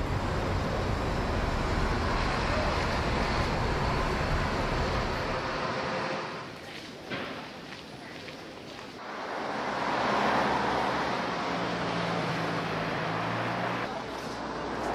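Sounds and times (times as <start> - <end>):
passing vehicles hum: 0.0 - 6.6, 9.0 - 14.9
bus engine: 0.0 - 6.9, 9.0 - 14.9.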